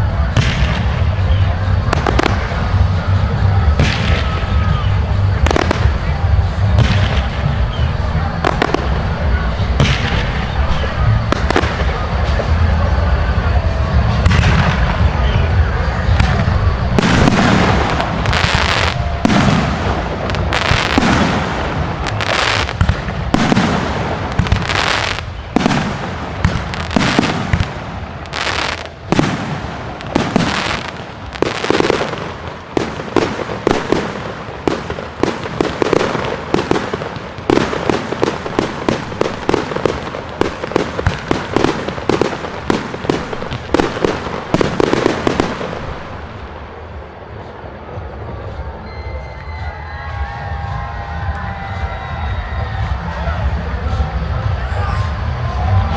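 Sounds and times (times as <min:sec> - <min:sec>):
fireworks bangs: 0:00.0 - 0:55.9.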